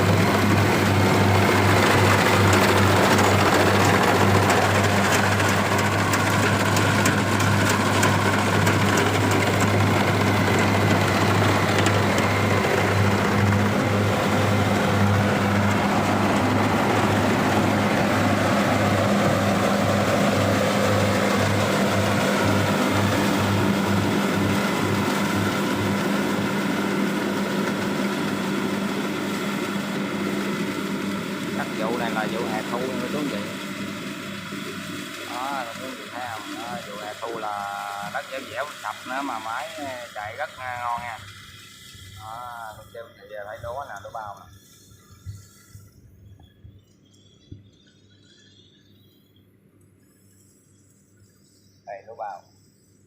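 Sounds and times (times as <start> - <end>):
diesel engine humming: 0.0 - 44.5
machinery rattling and whirring: 0.0 - 51.3.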